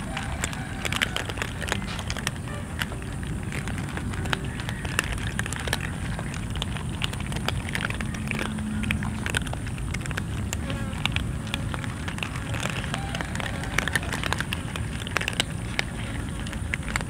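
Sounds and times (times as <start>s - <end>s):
cats crunching dry kibble: 0.0s - 17.0s.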